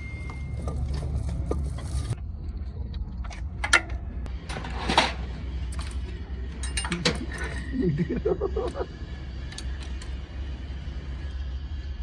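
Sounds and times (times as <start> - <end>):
metal tools clinking and scraping: 0.0 - 2.2, 3.3 - 11.2
low hum: 0.0 - 12.0.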